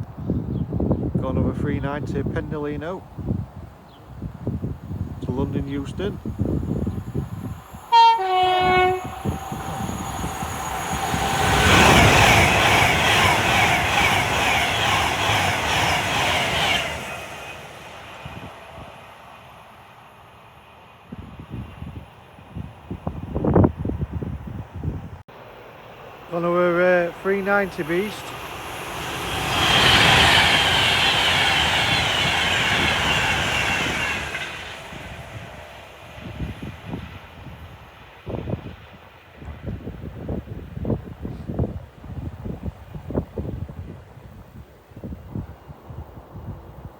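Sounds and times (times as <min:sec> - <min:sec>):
electric train passing at speed: 0:00.0 - 0:46.9.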